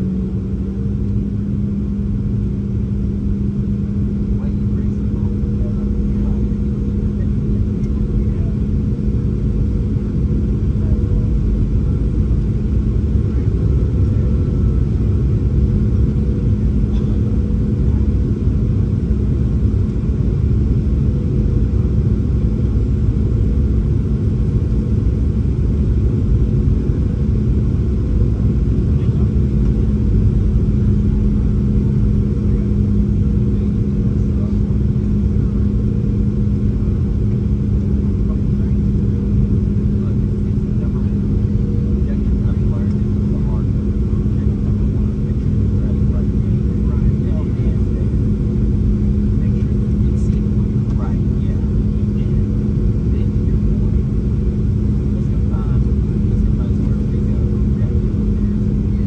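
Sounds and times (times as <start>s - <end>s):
airplane cabin engine drone: 0.0s - 59.0s
steady low hum: 0.0s - 59.0s.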